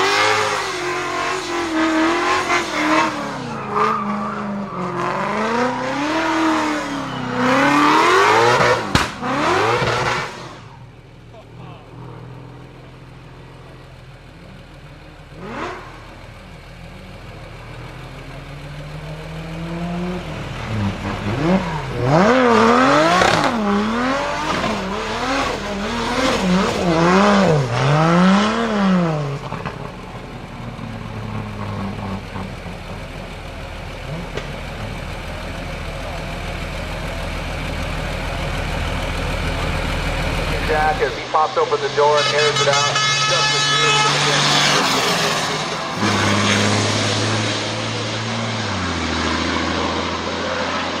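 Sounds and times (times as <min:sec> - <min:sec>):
racing car engine revving: 0:00.0 - 0:51.0.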